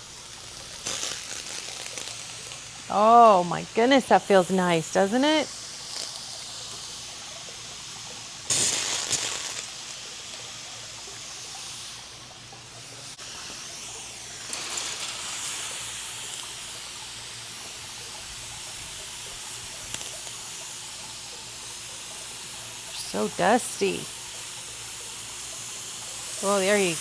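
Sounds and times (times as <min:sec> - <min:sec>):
water mist spraying: 0:00.0 - 0:27.0.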